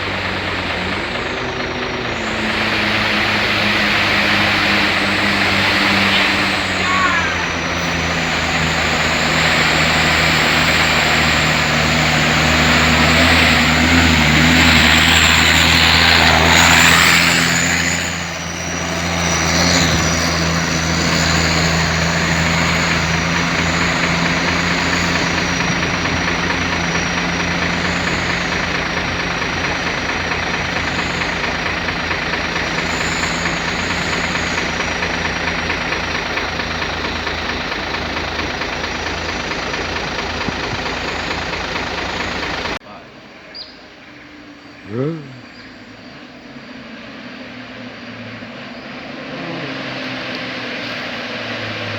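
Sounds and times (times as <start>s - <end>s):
diesel truck engine running: 0.0s - 43.0s, 44.0s - 51.9s.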